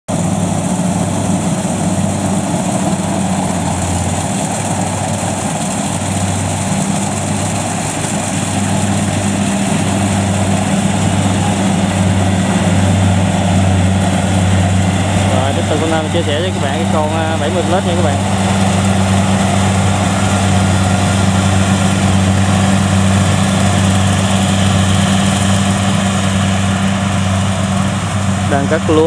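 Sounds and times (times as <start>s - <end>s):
diesel engine hum: 0.1s - 29.0s
machinery clattering: 0.1s - 29.0s.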